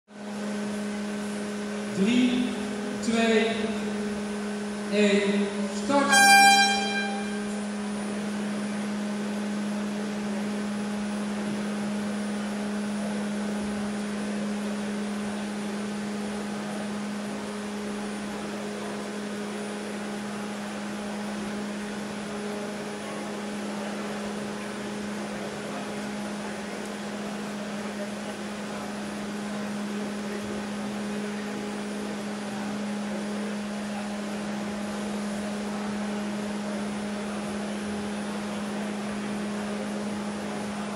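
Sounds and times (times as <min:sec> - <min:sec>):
large fans running: 0:00.1 - 0:40.9.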